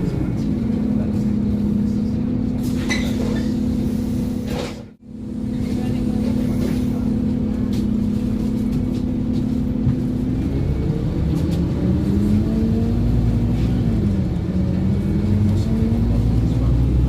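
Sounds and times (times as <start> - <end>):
bus body rattling: 0.0 - 17.0
bus engine accelerating: 0.0 - 17.0.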